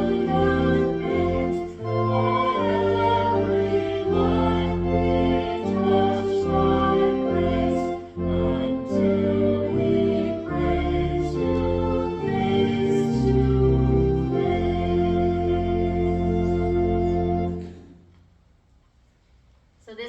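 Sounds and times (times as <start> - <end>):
congregation singing a hymn: 0.0 - 17.8
organ playing slow chords: 0.0 - 18.0.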